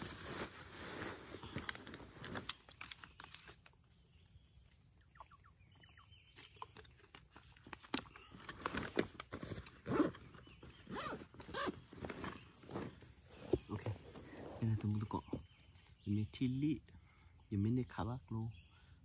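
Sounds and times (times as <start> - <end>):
crickets chirring: 0.0 - 19.0.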